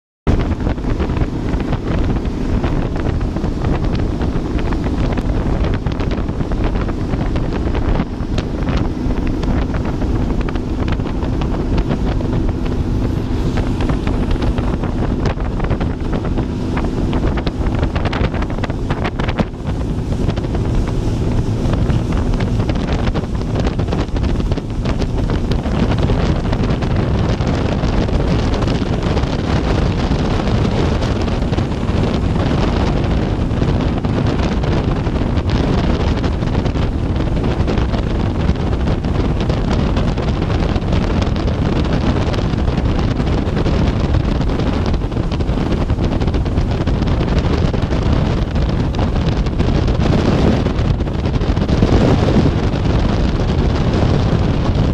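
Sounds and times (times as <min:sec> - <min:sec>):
motorboat engine drone: 0:00.3 - 0:54.9
water rushing: 0:00.3 - 0:54.9
wind buffeting microphone: 0:00.3 - 0:54.9.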